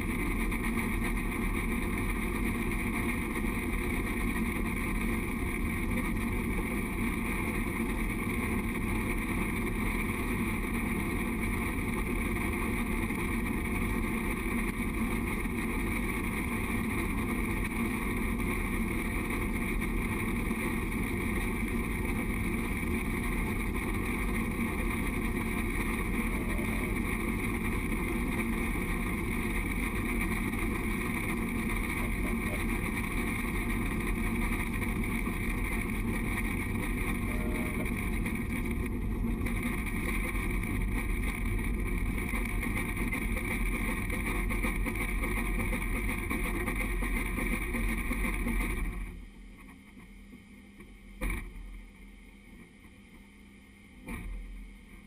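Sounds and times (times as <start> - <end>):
train running noise: 0.0 - 50.1.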